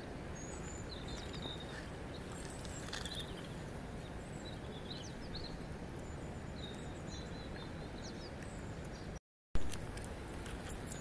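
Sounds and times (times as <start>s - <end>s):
river flowing: 0.0s - 11.0s
small birds chirping: 0.3s - 9.2s.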